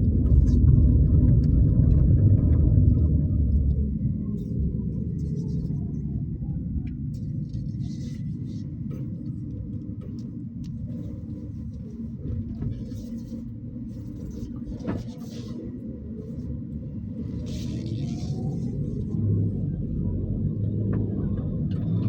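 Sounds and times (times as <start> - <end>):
car rumble from inside: 0.0 - 22.0.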